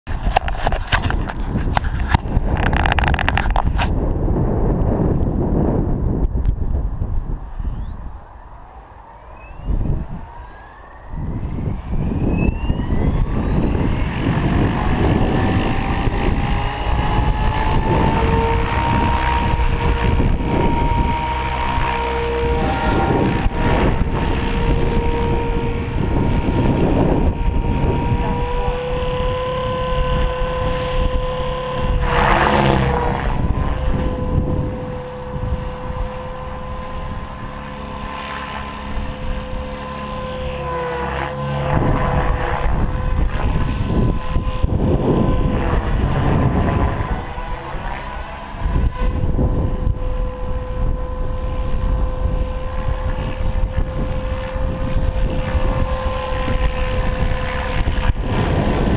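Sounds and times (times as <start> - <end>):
rc helicopter whine: 0.1 - 58.9
wind buffeting microphone: 0.1 - 58.9.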